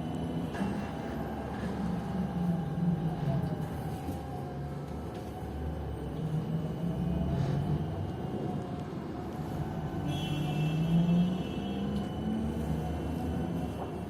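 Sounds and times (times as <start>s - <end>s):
trolleybus running rumble: 0.0s - 14.0s.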